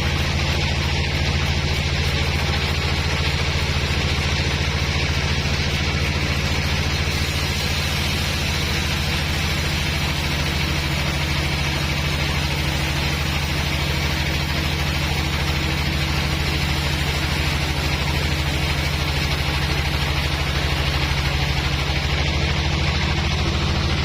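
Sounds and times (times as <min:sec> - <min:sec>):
band saw engine running: 0:00.0 - 0:24.0.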